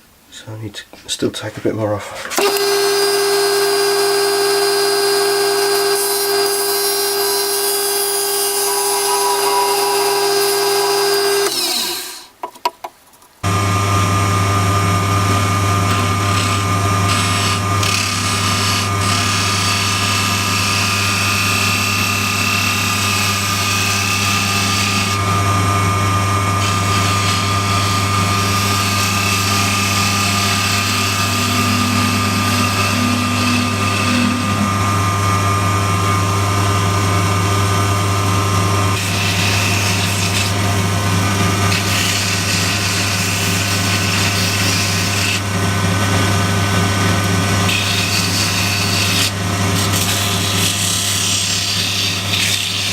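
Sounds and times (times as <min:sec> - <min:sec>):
turning tool cutting wood: 0:02.0 - 0:12.4, 0:14.8 - 0:52.9
wood lathe motor hum: 0:02.1 - 0:12.3, 0:13.4 - 0:52.9.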